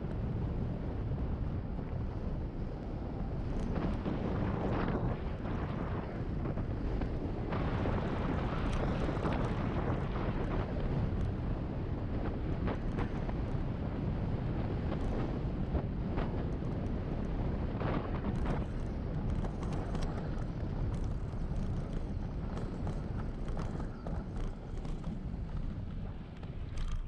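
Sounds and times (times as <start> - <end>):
wind buffeting microphone: 0.0 - 27.0
tyre noise on rough asphalt: 3.3 - 27.0.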